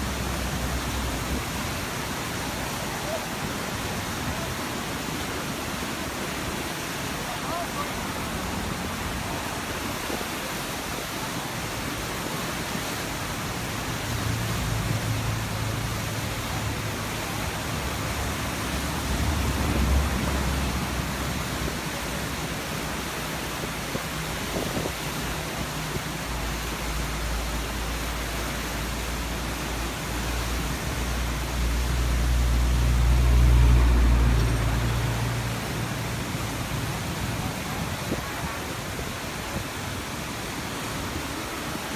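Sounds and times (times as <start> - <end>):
floodwater rushing over spillway: 0.0 - 41.9.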